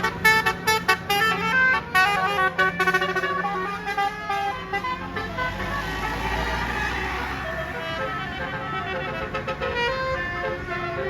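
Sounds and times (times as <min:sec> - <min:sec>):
bus engine rumble: 0:00.0 - 0:11.0
multi-note melody horn: 0:00.0 - 0:11.0.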